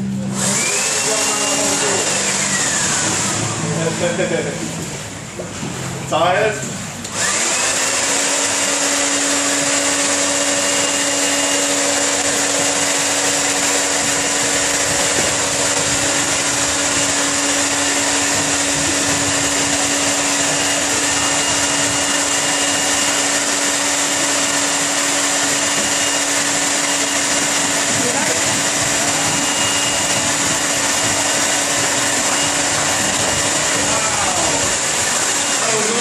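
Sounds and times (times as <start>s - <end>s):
electric air blower humming: 0.0s - 36.0s.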